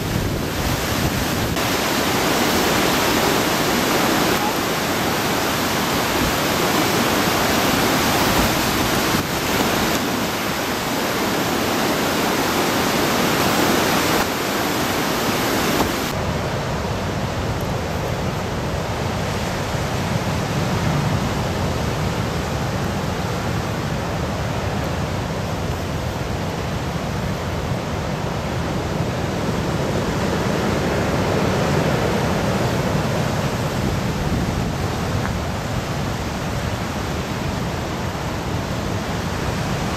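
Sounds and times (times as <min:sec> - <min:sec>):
floodwater roaring in river: 0:00.0 - 0:39.9
surf washing against sea wall: 0:00.0 - 0:39.9.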